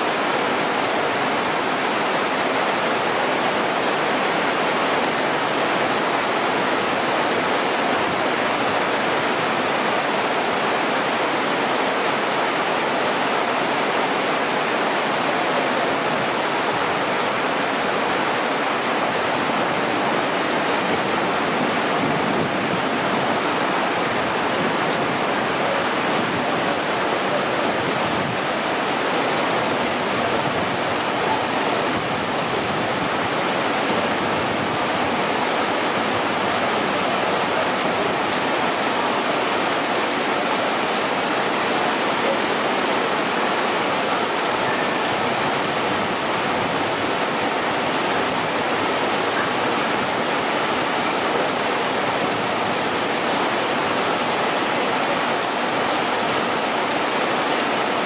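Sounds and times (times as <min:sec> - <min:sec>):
heavy rain falling: 0:00.0 - 0:58.0
water running off roofs: 0:00.0 - 0:58.0.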